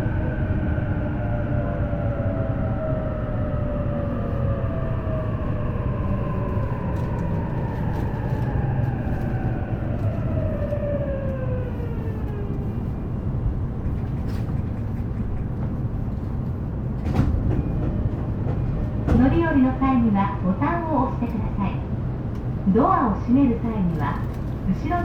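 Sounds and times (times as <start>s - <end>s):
wheels rumbling on rails: 0.0s - 25.0s.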